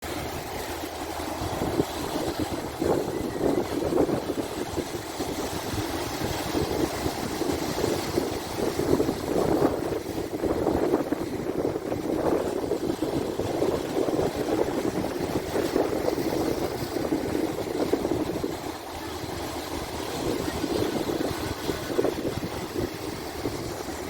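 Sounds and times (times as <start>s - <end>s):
sea waves washing ashore: 0.0s - 24.0s.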